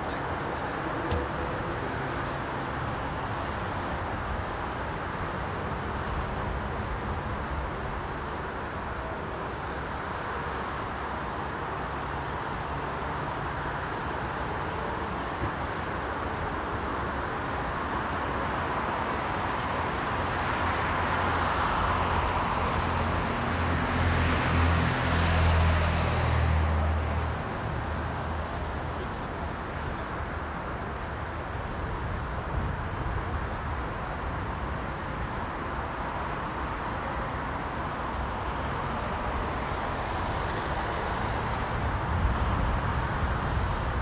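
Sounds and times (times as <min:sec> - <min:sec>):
road traffic hum: 0:00.0 - 0:44.0.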